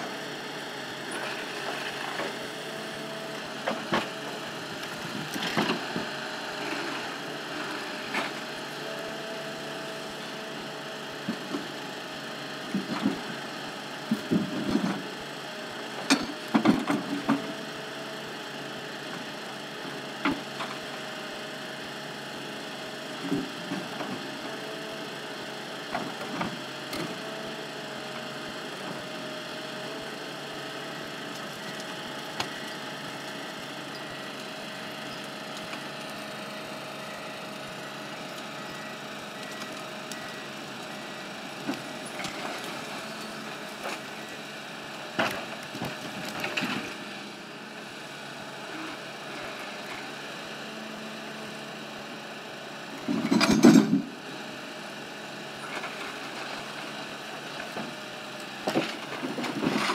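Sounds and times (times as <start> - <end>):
forestry machine engine running: 0.0 - 59.9.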